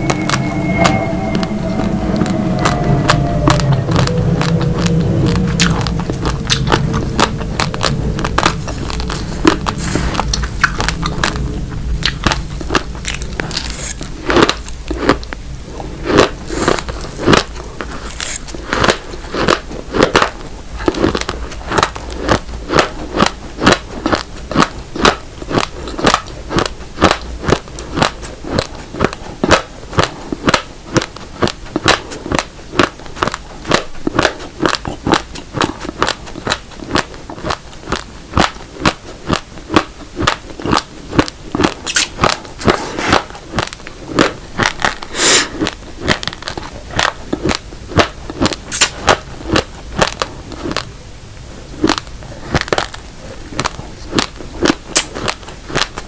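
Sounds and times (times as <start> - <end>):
rice grains crunching in mouth: 4.4 - 50.9, 51.7 - 56.0.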